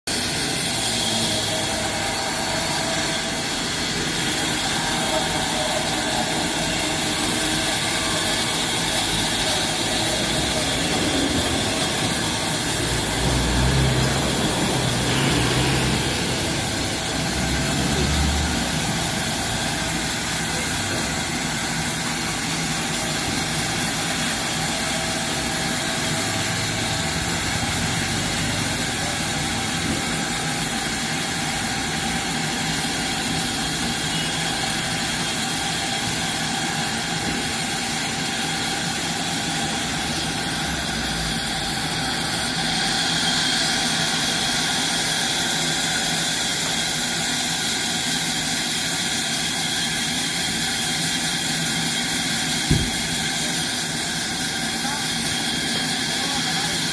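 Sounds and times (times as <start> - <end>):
band saw cutting wood: 0.1 - 56.6
high machine whine: 0.1 - 56.9.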